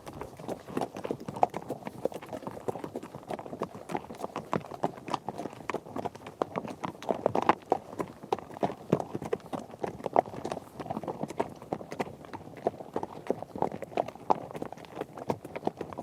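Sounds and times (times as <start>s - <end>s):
horses galloping: 0.0s - 16.0s.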